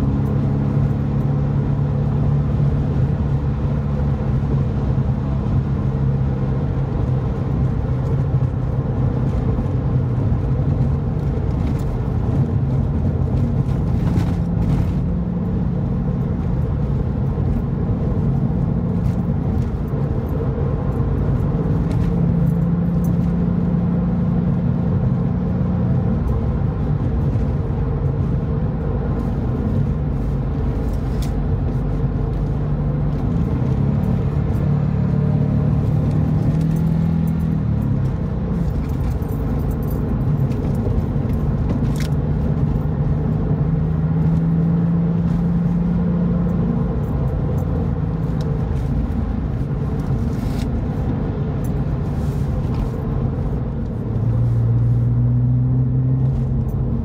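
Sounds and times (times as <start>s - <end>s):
car engine running: 0.0s - 57.0s
tyre and road noise: 0.0s - 57.0s.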